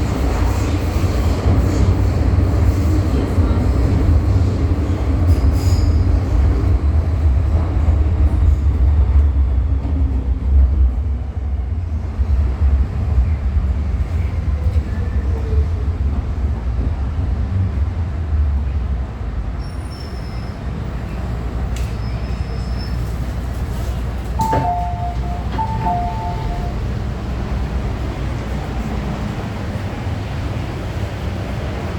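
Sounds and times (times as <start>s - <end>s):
train rumbling through tunnel: 0.0s - 31.9s.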